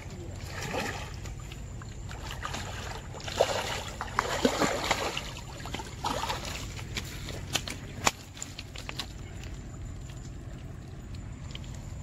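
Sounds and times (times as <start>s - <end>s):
fish splashing in water: 0.3s - 12.0s.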